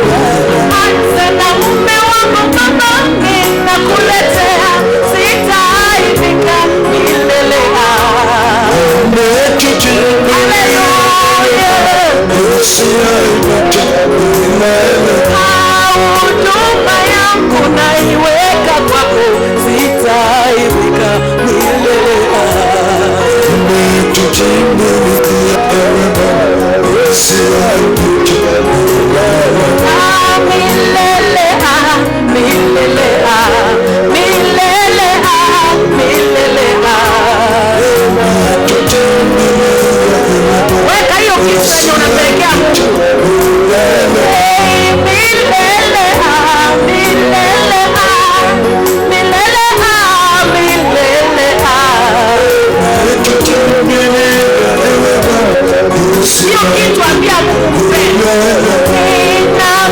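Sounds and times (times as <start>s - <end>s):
gospel chorus singing: 0.0s - 59.9s
instrumental backing: 0.0s - 59.9s.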